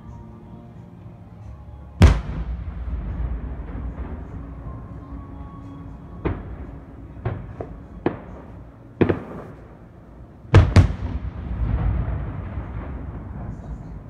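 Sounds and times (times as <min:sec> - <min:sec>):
firework shells bursting: 0:02.0 - 0:10.0, 0:10.6 - 0:14.0.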